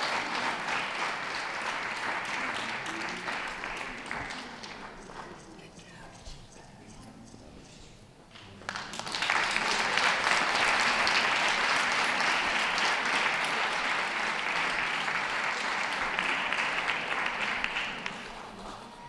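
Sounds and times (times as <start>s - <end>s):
audience applauding: 0.0s - 5.6s, 8.4s - 19.0s.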